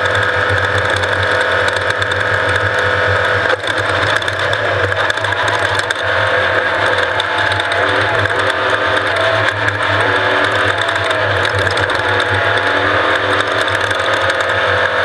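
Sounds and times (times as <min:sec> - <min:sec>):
engine drone: 0:00.0 - 0:15.0
parts rattling: 0:00.0 - 0:15.0.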